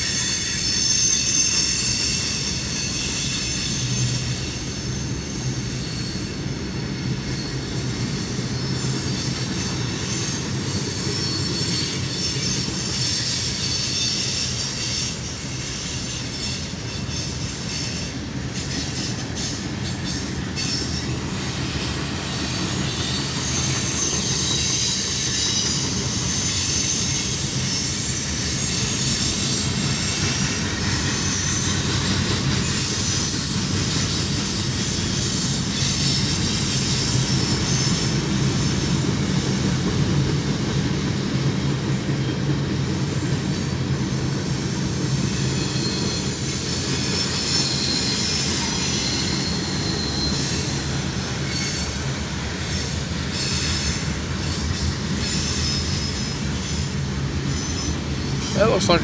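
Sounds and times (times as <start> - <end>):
high-pitched wheel squeal: 0.0 - 39.0, 43.4 - 59.0
train wheels rumbling on rails: 0.0 - 59.0.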